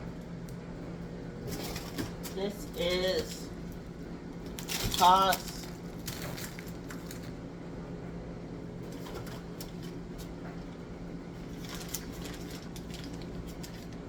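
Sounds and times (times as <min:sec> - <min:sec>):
steady low hum: 0:00.0 - 0:14.0
food packages rustling: 0:01.3 - 0:07.5, 0:08.8 - 0:14.0.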